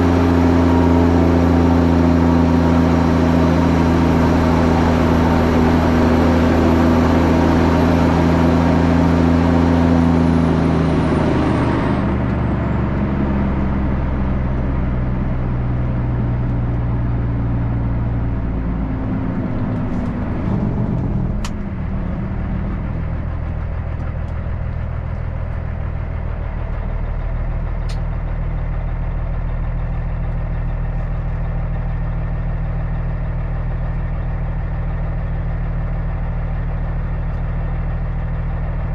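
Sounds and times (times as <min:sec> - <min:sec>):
heavy diesel truck engine: 0:00.0 - 0:38.9.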